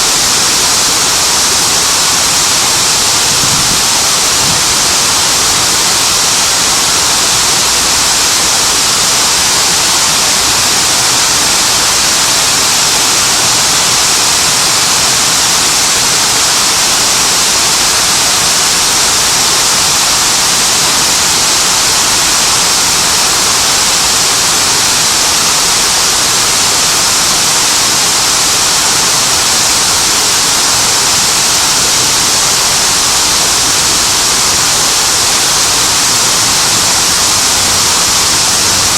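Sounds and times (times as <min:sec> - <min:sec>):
rush of falling water: 0:00.0 - 0:38.9.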